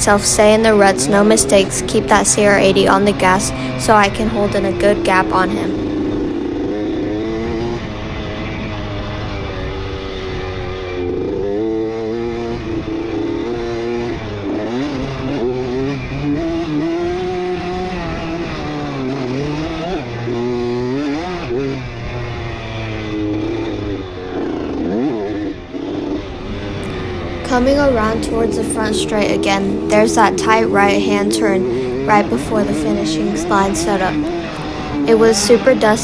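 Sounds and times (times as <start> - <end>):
two-stroke motorcycle engine revving: 0.0 - 36.0.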